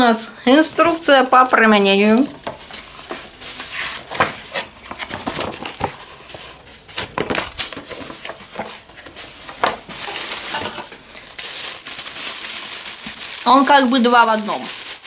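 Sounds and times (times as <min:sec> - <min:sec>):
paper rustling: 0:00.7 - 0:15.0
pages turning: 0:00.8 - 0:15.0.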